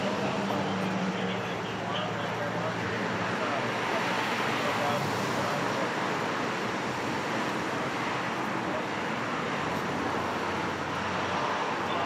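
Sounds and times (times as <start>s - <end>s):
cars passing slowly: 0.0s - 12.0s.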